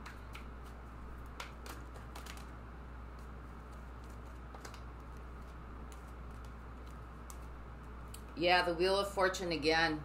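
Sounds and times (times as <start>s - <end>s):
cards shuffling and tapping: 0.0s - 8.4s
steady low hum: 0.0s - 10.0s.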